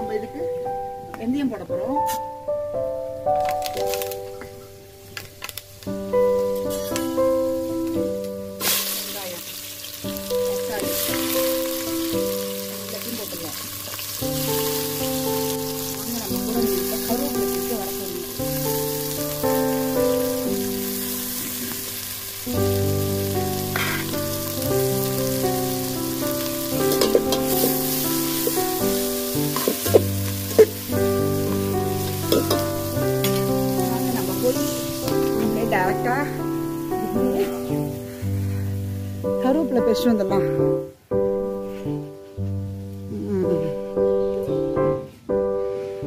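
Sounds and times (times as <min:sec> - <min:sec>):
instrumental background music: 0:00.0 - 0:46.0
vegetables sizzling in oil: 0:03.4 - 0:40.3.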